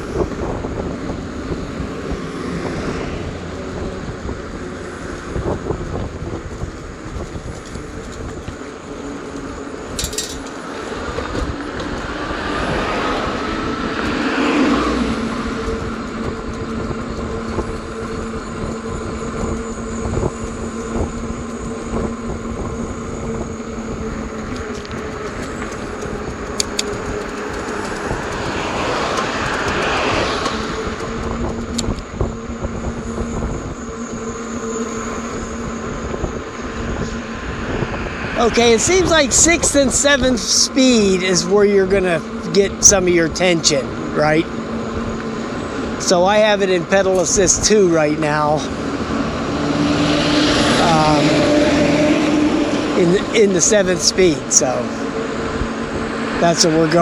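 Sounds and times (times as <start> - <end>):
electric bike motor and tyre hum: 0.0 - 57.0
vehicles passing: 0.0 - 57.0
wind on microphone: 0.0 - 57.0.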